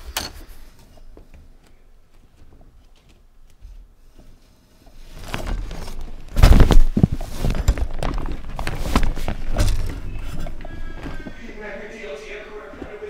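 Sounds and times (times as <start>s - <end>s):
rustling: 0.1s - 13.0s.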